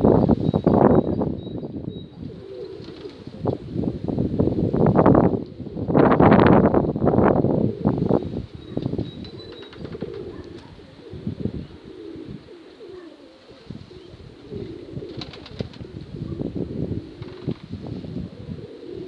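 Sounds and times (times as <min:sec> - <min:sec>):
wind gusting over microphone: 0:00.0 - 0:12.6, 0:13.6 - 0:19.0
pigeons cooing: 0:00.0 - 0:19.0.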